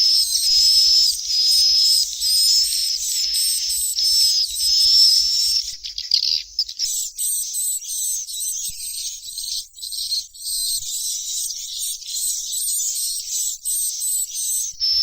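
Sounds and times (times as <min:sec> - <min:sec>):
chicks twittering chorus: 0:00.0 - 0:15.0.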